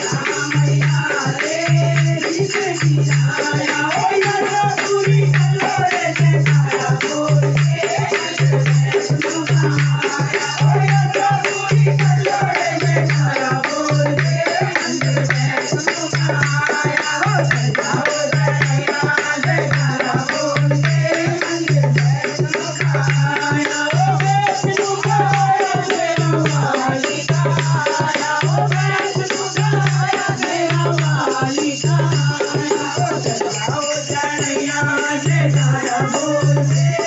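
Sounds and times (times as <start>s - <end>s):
quick high percussion: 0.0s - 37.0s.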